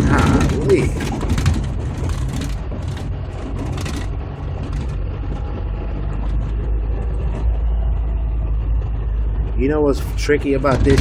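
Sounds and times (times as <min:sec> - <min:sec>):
car engine and tyres rumbling: 0:00.0 - 0:11.0
gravel crackling under tyres: 0:00.0 - 0:11.0.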